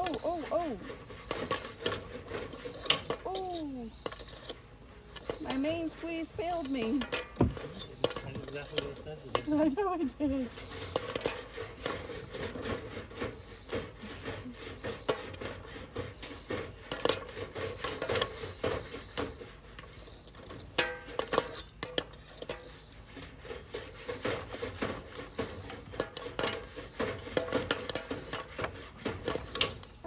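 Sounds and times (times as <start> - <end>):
metal scraping: 0.0 - 30.0.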